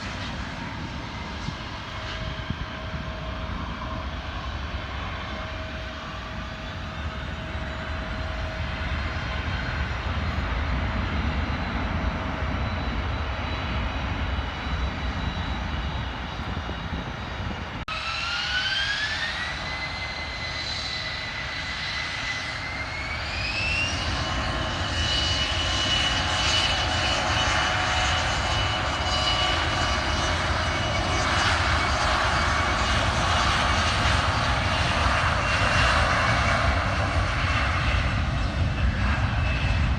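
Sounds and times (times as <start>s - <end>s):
jet engine whine: 0.0s - 39.9s
jet engines roaring: 0.0s - 39.9s.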